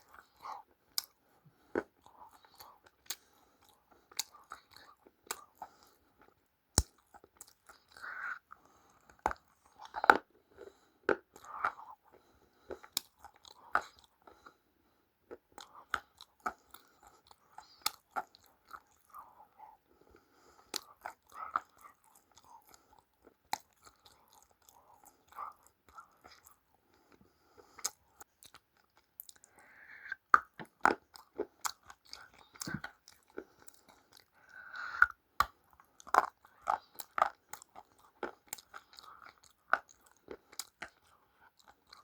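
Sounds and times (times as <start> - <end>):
person chewing crunchy food: 0.0 - 14.6, 15.2 - 42.0.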